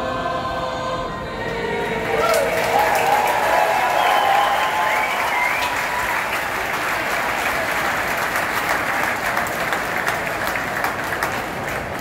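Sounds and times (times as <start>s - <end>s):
crowd applauding: 2.1s - 12.0s.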